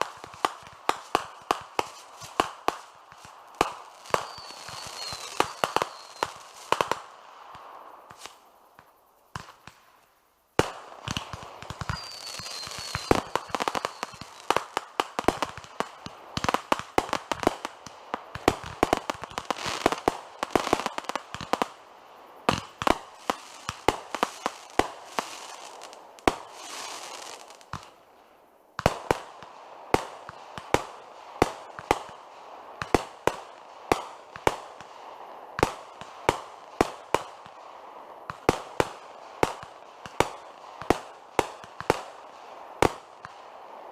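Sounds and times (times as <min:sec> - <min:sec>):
fireworks bangs and pops: 0:00.0 - 0:10.0, 0:10.6 - 0:21.8, 0:22.5 - 0:28.0, 0:28.8 - 0:43.9
fireworks crackling: 0:00.0 - 0:28.0, 0:28.8 - 0:43.9.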